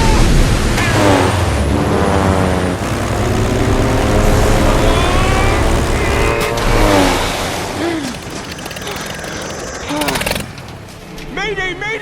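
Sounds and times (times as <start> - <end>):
piston aircraft engine running: 0.6 - 11.2.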